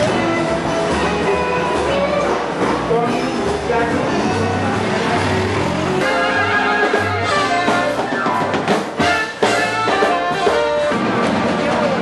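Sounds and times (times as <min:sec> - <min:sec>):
live band horns and drums: 0:00.0 - 0:12.0.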